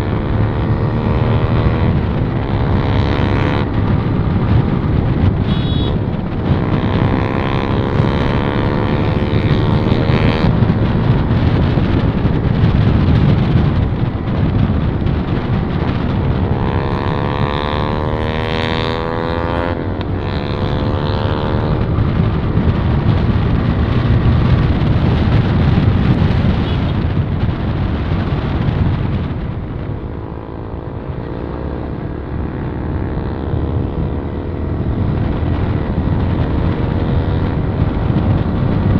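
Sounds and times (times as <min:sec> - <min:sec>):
motorcycle engine accelerating: 0:00.0 - 0:38.9
wind rush on microphone: 0:00.0 - 0:38.9.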